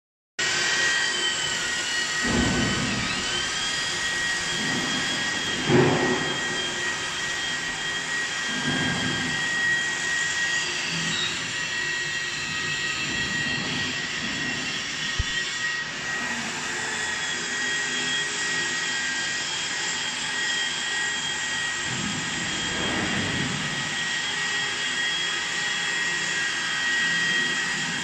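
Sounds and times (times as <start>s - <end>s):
lathe motor high whine: 0.4s - 28.0s.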